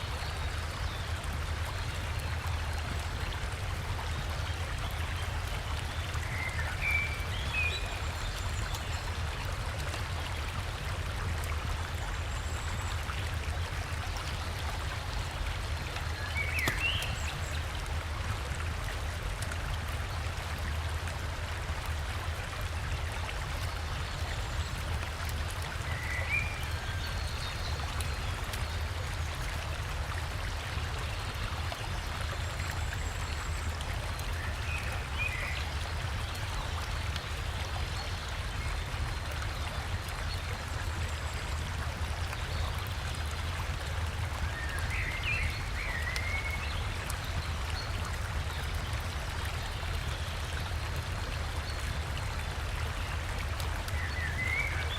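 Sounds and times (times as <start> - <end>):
river water and waterfall rushing: 0.0 - 54.9.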